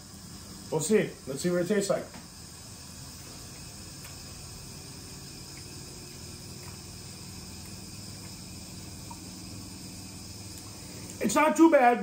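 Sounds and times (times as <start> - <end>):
dishwasher humming and hissing: 0.0 - 12.0
faint high whine: 0.0 - 12.0.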